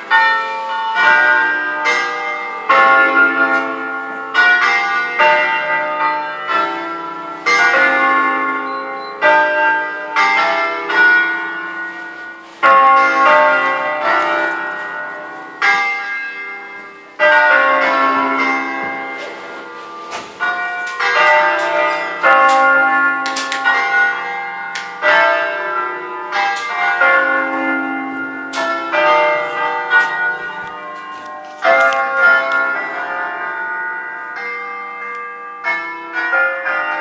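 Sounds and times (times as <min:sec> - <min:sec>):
church bells ringing: 0:00.0 - 0:37.0.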